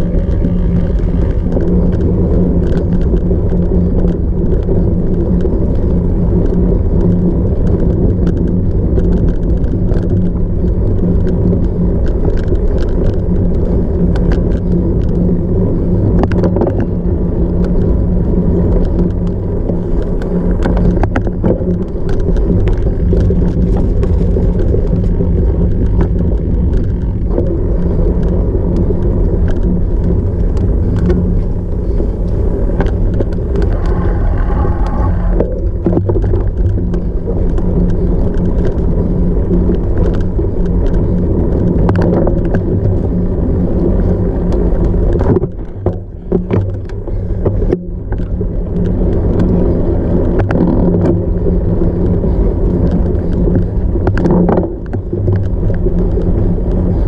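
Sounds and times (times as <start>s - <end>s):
bike tyres rumbling off-road: 0.0s - 57.0s.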